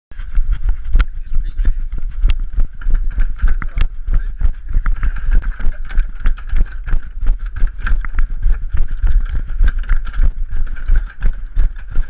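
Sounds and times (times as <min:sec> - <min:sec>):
running footsteps on wooden boards: 0:00.1 - 0:12.0
wind rumbling on microphone: 0:00.2 - 0:12.0.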